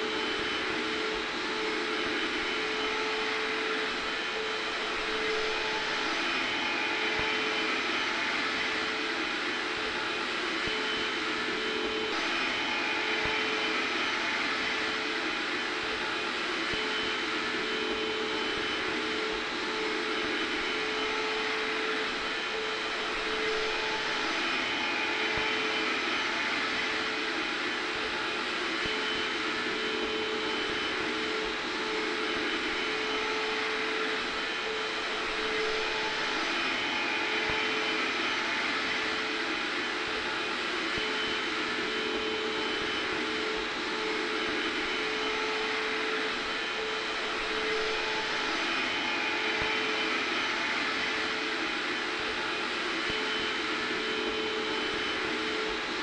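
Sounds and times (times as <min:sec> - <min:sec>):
faint vacuum cleaner running: 0:00.0 - 0:56.0
hair dryer blowing: 0:00.0 - 0:56.0.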